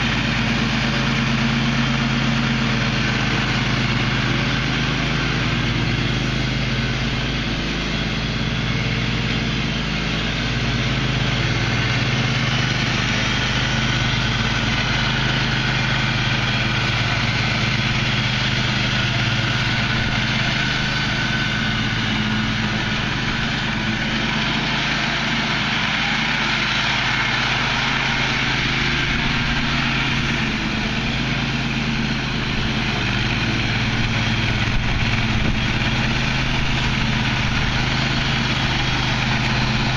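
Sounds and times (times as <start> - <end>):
riding lawn mower engine running: 0.0 - 39.9.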